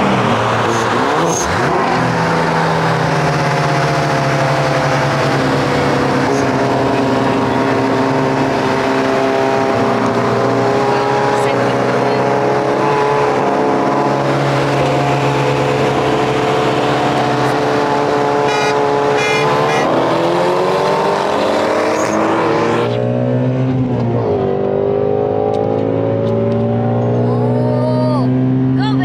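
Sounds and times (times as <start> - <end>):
car engine accelerating hard: 0.0 - 29.0
wind and road rush: 0.0 - 29.0.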